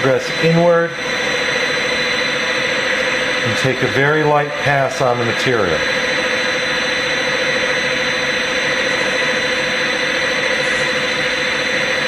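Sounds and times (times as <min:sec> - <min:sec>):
lathe spindle whine: 0:00.0 - 0:12.0.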